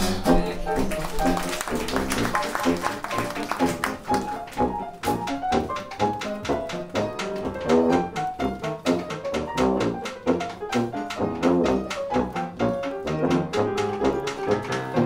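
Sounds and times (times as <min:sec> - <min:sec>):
jazz dance band music: 0:00.0 - 0:15.0
piano solo: 0:00.0 - 0:15.0.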